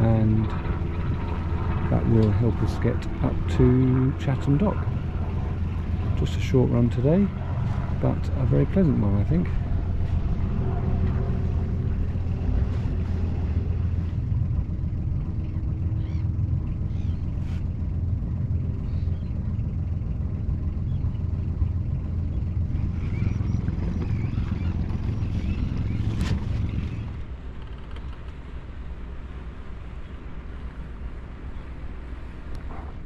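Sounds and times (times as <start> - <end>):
boat diesel engine running: 0.0 - 33.0.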